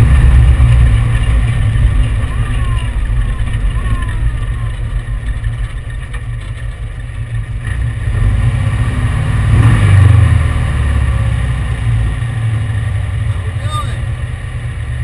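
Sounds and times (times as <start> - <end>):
engine idling low rumble: 0.0 - 15.0.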